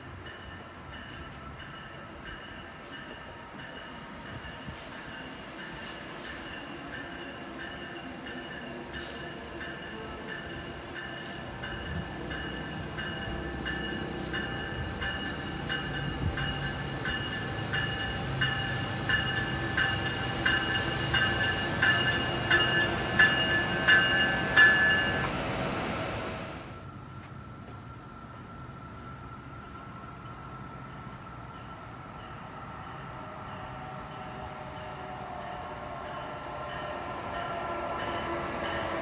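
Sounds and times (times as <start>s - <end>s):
locomotive bell ringing: 0.0s - 25.4s, 30.2s - 39.0s
train rumbling: 0.0s - 39.0s.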